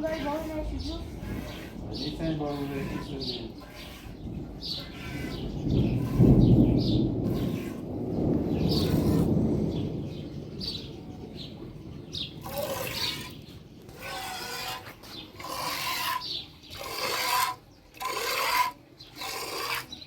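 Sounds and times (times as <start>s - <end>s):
rasping scraping strokes: 0.0s - 8.0s, 8.6s - 9.4s, 12.4s - 20.0s.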